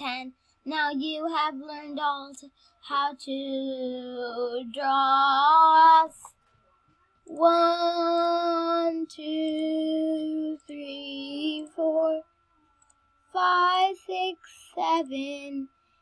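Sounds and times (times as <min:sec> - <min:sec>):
child singing: 0:00.0 - 0:06.3, 0:07.3 - 0:12.2, 0:13.3 - 0:15.7.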